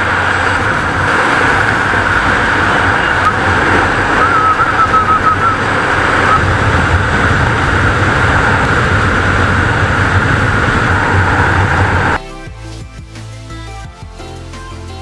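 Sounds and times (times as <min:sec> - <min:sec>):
motorcycle engine running: 0:00.0 - 0:12.2
wind rushing on microphone: 0:00.0 - 0:12.2.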